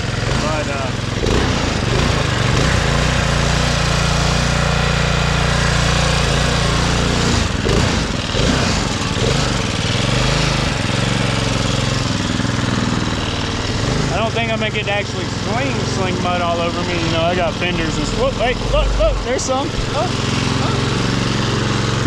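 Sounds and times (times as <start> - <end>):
riding mower engine under load: 0.0 - 22.0.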